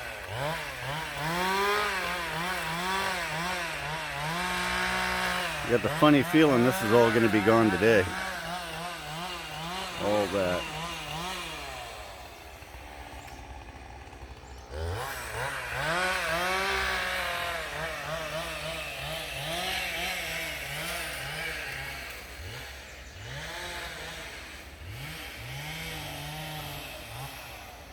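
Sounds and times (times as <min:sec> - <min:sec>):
chainsaw cutting and revving: 0:00.0 - 0:27.9.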